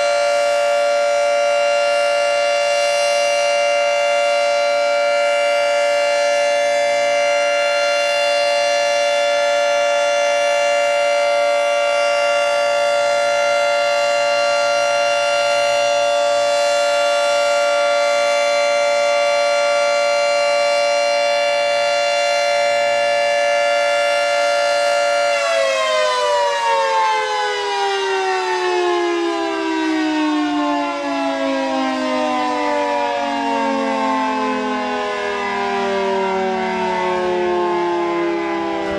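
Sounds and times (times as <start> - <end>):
warning siren: 0.0 - 38.9.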